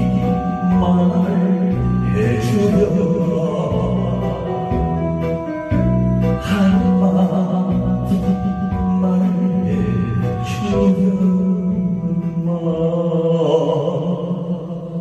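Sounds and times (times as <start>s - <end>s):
man singing into microphone: 0.0s - 15.0s
musical accompaniment: 0.0s - 15.0s.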